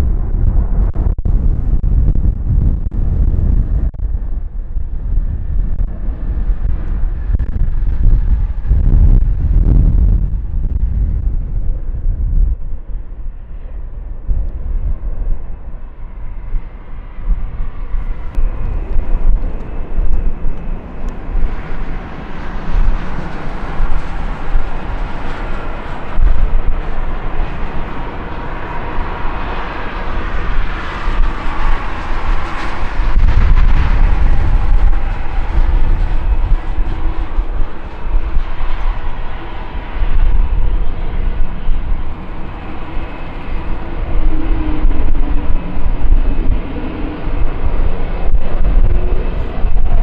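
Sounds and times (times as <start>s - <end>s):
jet engines roaring on takeoff: 0.0s - 50.0s
wind buffeting microphone: 0.0s - 50.0s.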